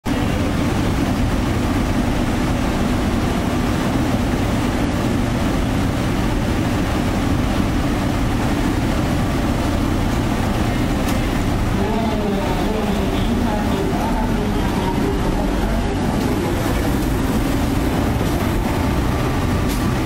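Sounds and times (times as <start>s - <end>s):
electric locomotive machinery droning: 0.1s - 20.0s.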